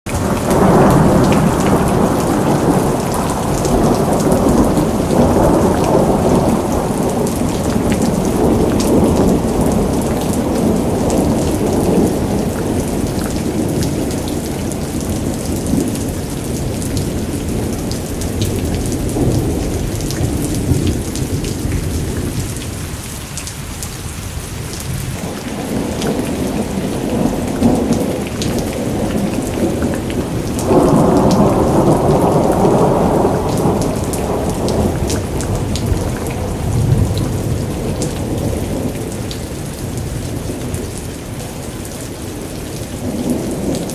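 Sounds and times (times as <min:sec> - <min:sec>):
rolling thunder: 0:00.1 - 0:22.9, 0:24.6 - 0:43.9
steady rain: 0:00.1 - 0:43.9.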